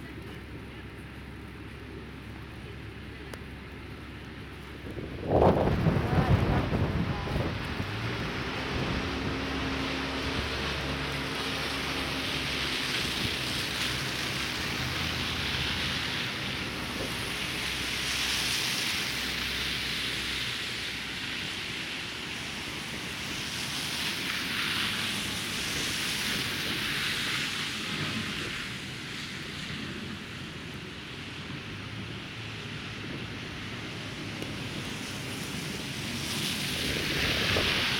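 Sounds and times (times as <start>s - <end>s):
low hum of engines: 0.0s - 37.9s
tyres hissing through wet snow: 3.8s - 37.9s.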